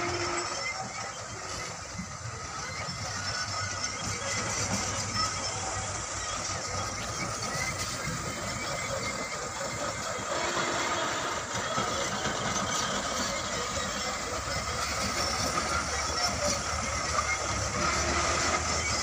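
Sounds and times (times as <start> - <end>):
trucks and machinery engine noise: 0.0 - 19.0.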